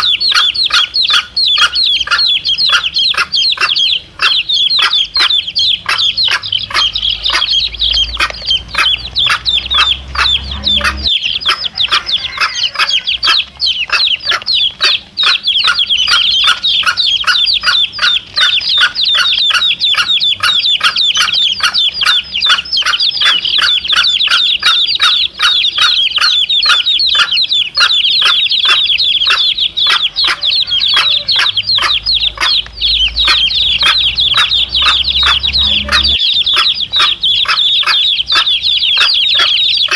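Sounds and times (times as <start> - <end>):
chicks peeping: 0.0 - 39.9
hen clucking low: 0.0 - 39.9.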